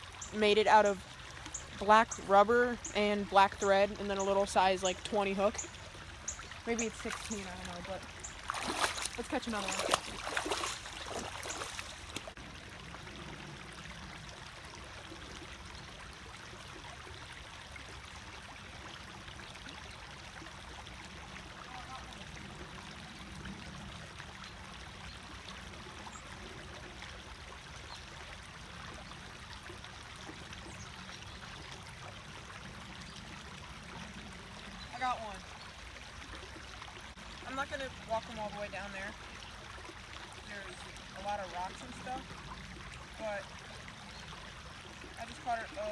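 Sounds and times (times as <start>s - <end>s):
creek trickling: 0.0s - 45.9s.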